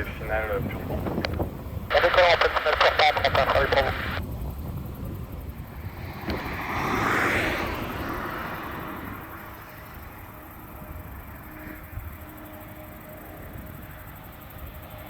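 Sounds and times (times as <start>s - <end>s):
jet airliner engine noise: 0.0s - 15.0s.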